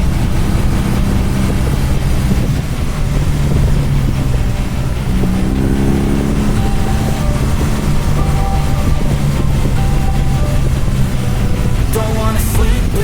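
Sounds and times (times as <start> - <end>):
motorcycle twin engine running: 0.0 - 13.0.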